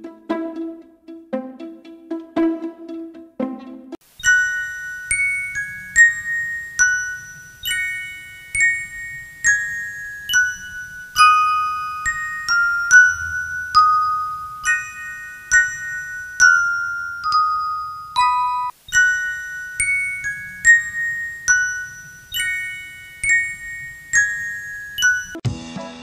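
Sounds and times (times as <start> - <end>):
gentle bell-like mallet music: 4.1 - 25.4.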